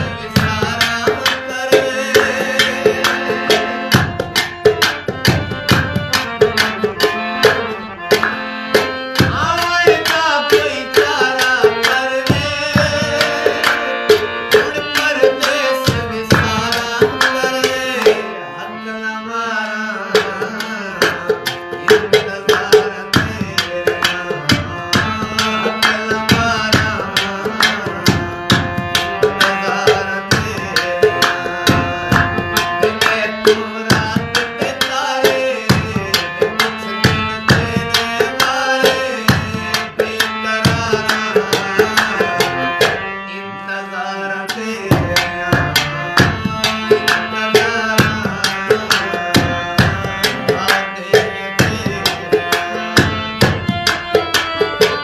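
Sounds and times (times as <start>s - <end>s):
harmonium chords: 0.0s - 55.0s.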